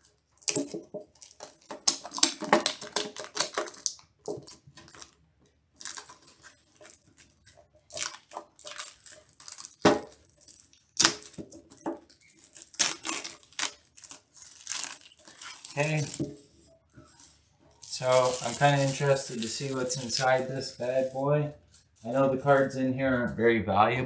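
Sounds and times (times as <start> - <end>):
plastic wrap crinkling: 0.0 - 22.8.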